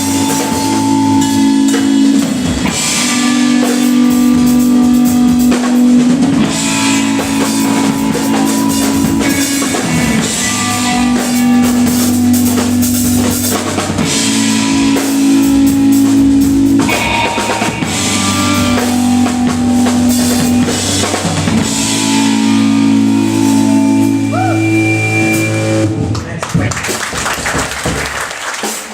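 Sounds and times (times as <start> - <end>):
guitar playing long chords: 0.0 - 26.2
drum kit: 0.0 - 28.9.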